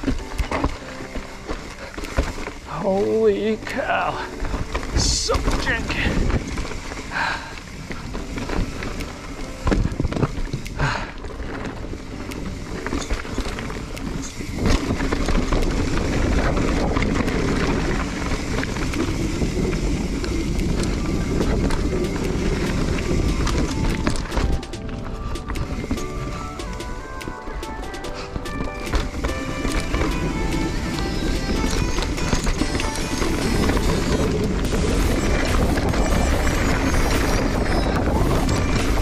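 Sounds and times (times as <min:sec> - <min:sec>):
bike knocking and rattling: 0:00.0 - 0:39.0
bike tyres rolling on gravel trail: 0:00.0 - 0:39.0.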